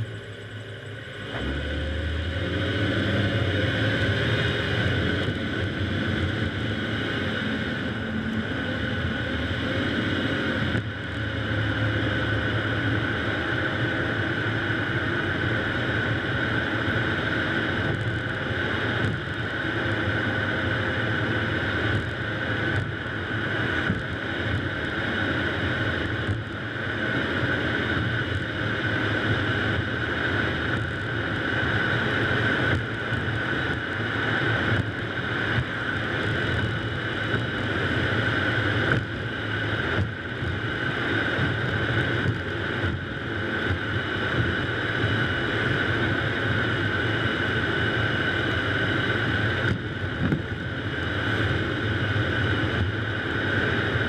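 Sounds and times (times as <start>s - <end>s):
car road and tyre noise: 0.0s - 54.0s.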